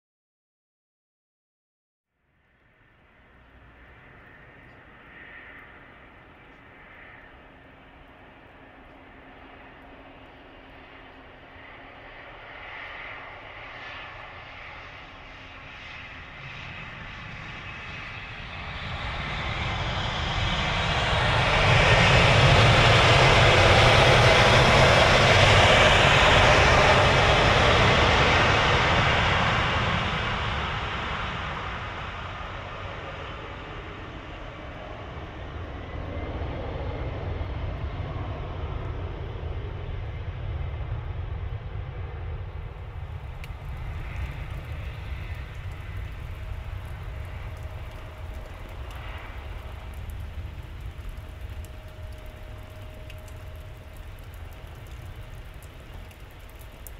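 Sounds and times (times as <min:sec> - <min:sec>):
jet engine roar: 0:02.8 - 0:56.9.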